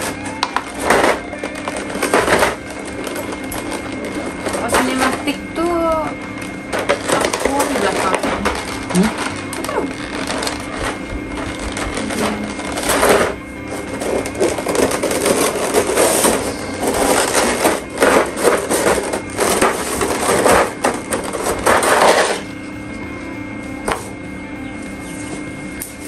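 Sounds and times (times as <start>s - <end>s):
packaging crinkling and rustling: 0.0s - 5.1s, 6.4s - 22.4s.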